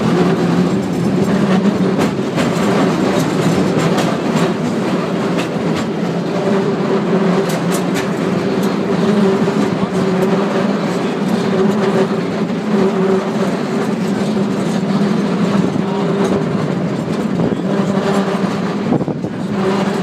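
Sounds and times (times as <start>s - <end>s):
cable car rumbling on rails: 0.0s - 20.0s
clicks and clacks: 0.0s - 20.0s.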